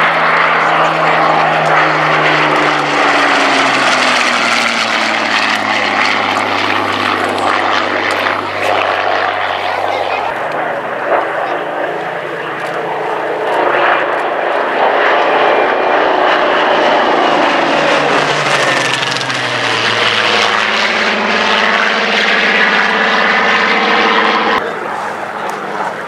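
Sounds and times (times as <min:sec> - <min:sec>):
propeller planes flying past: 0:00.0 - 0:26.0.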